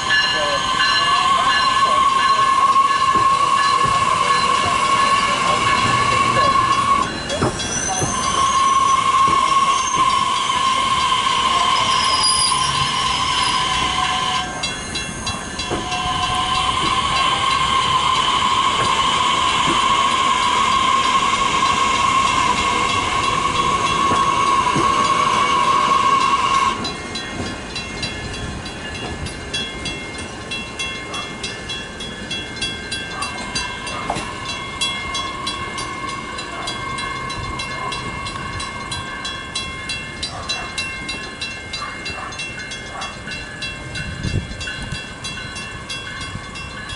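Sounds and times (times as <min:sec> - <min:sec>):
electric train whine: 0:00.0 - 0:46.9
rail clicks: 0:00.0 - 0:46.9
train rolling on rails: 0:00.0 - 0:46.9.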